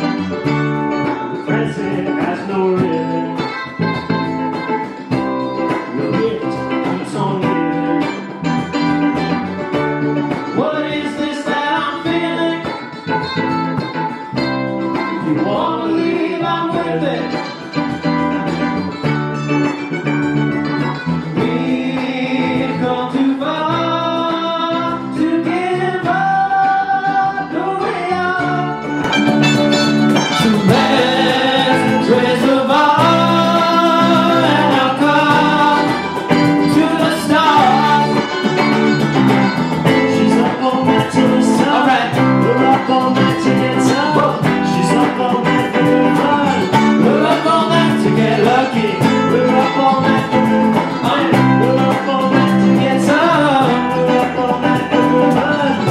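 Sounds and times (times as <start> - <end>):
man singing: 0.0 - 9.3, 10.3 - 14.0, 14.8 - 17.9, 21.4 - 55.9
cajon strikes: 0.0 - 24.8, 27.8 - 55.9
electric bass: 0.0 - 55.9
electric guitars: 0.0 - 55.9.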